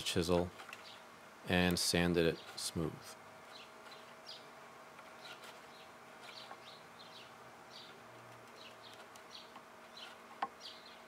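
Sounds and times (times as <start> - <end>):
quiet steady background hum: 0.0 - 11.0.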